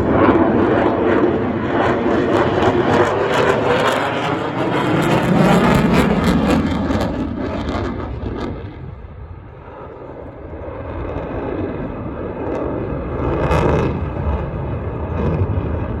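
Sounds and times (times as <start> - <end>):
jet engine roaring and crackling: 0.0 - 16.0.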